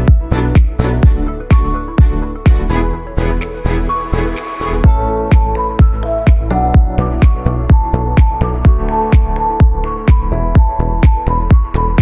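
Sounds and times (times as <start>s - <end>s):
loud dance music: 0.0s - 2.8s, 3.4s - 12.0s.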